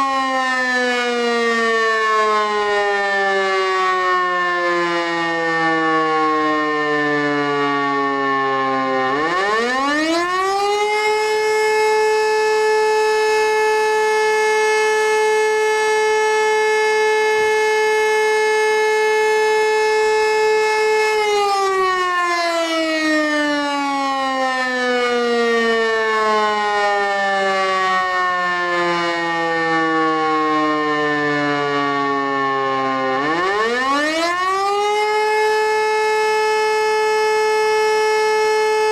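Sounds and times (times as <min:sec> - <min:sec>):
civil defense siren: 0:00.0 - 0:38.9.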